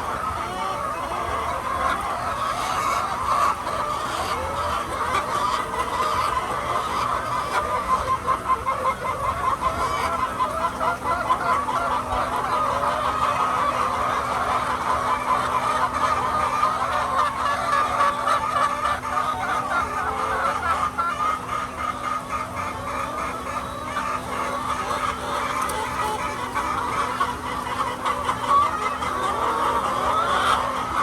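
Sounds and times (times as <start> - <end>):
hens clucking and chattering: 0.0 - 31.0.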